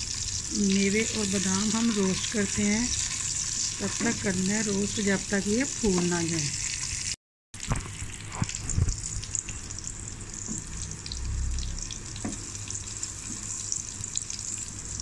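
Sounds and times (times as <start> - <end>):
nuts sizzling in hot fat: 0.0 - 15.0.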